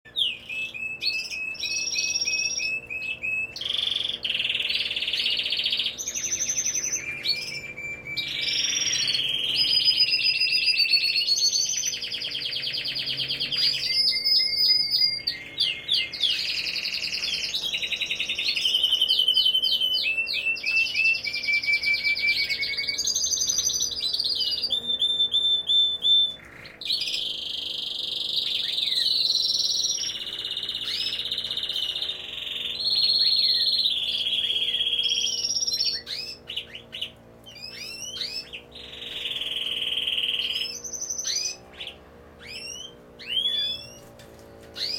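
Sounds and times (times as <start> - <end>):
finches singing and twittering: 0.1 - 44.9.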